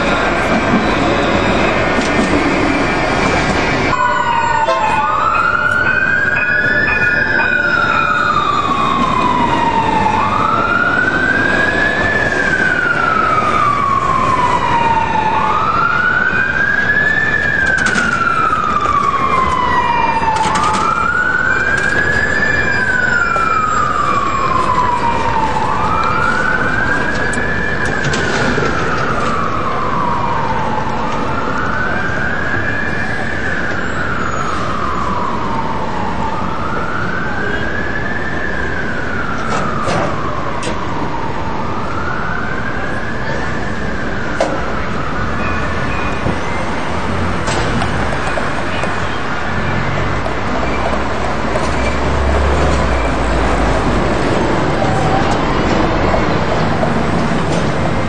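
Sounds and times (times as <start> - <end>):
emergency siren wailing: 0.0 - 58.0
street noise: 0.0 - 58.0
tram passing: 0.0 - 58.0.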